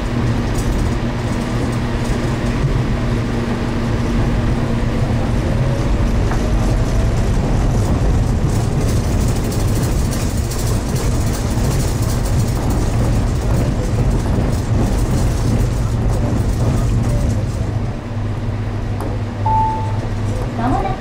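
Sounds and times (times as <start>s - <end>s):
shuttle train rumbling: 0.0s - 21.0s.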